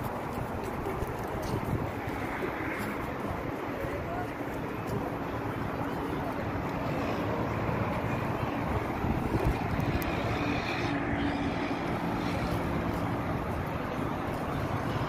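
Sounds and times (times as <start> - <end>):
faint voices of passers-by: 0.0 - 15.0.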